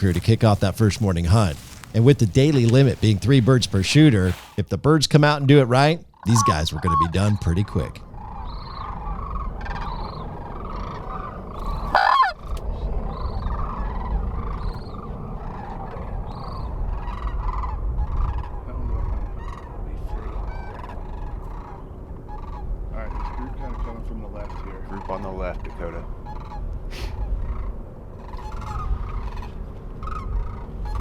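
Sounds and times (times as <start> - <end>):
geese honking: 0.0 - 4.5, 6.2 - 12.5, 13.1 - 31.0
steady low rumble: 0.0 - 4.8, 5.4 - 31.0.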